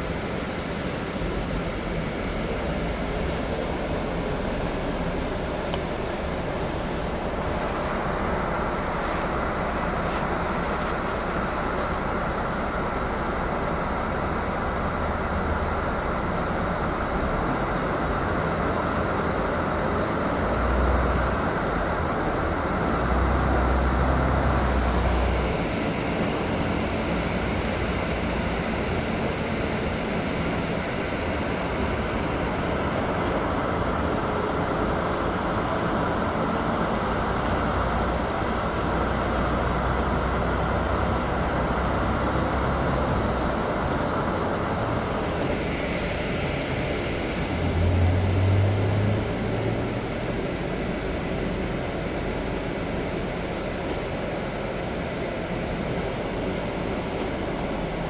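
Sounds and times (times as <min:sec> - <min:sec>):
bus engine rumble: 0:00.0 - 0:58.0
road noise: 0:00.0 - 0:58.0.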